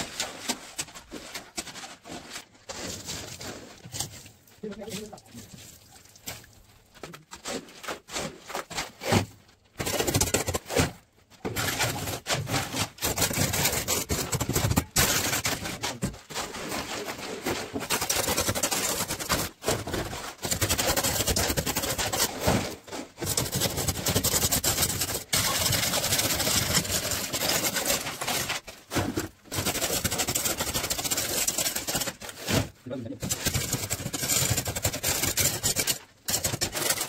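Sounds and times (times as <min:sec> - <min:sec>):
shovel scraping wet concrete: 0:00.0 - 0:05.1, 0:07.3 - 0:37.0.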